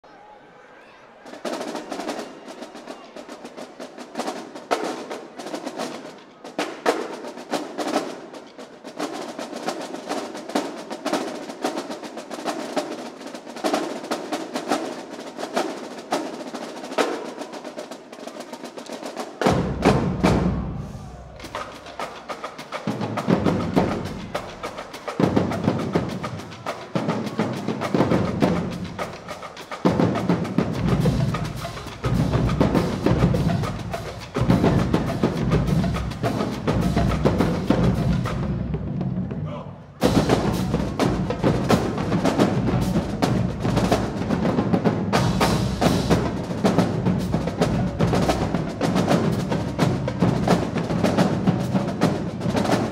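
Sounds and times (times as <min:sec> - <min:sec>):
snare and tenor drums: 0:01.3 - 0:52.9.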